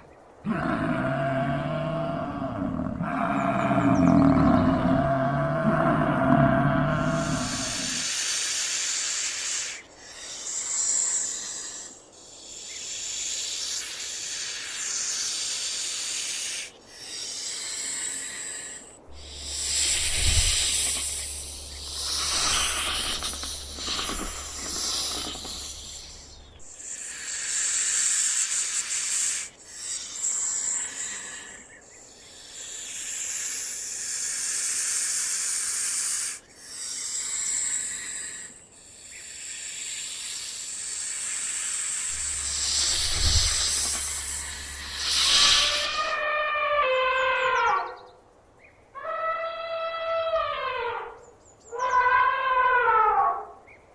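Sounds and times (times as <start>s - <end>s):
snake hissing: 0.5s - 47.5s.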